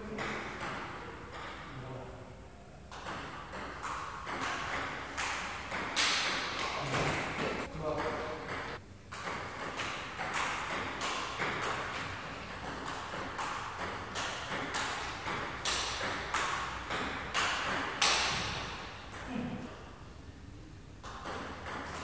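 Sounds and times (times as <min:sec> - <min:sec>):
table tennis ball hits: 0:00.1 - 0:01.7, 0:02.9 - 0:19.3, 0:21.0 - 0:22.0.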